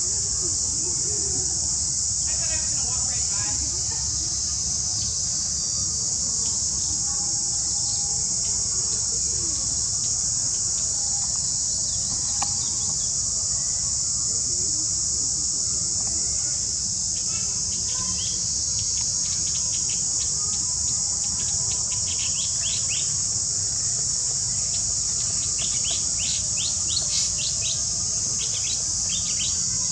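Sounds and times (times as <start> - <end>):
insect chorus drone: 0.0 - 29.9.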